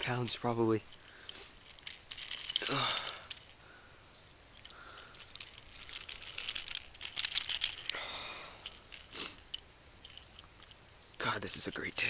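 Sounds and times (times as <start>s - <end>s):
fish rustling and crackling in grass: 0.0s - 11.2s.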